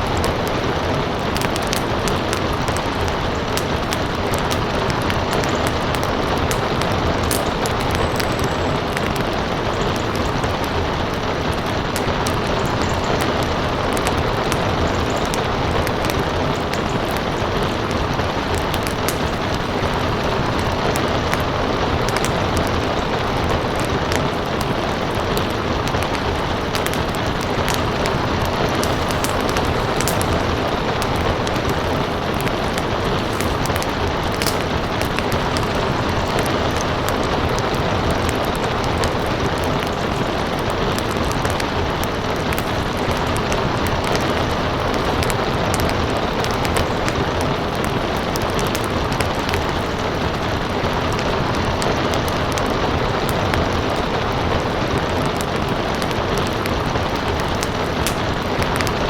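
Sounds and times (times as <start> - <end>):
steady rain: 0.0 - 59.0
wood fire crackling and popping: 0.0 - 59.0.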